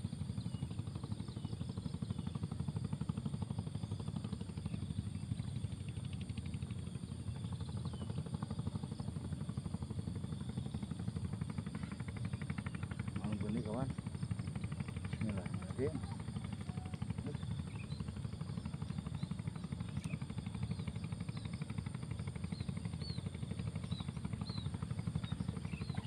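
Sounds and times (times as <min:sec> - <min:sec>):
small engine chugging: 0:00.0 - 0:26.0.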